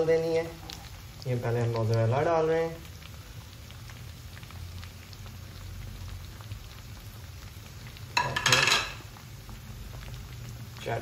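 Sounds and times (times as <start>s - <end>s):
cheese sauce bubbling: 0.0s - 11.0s.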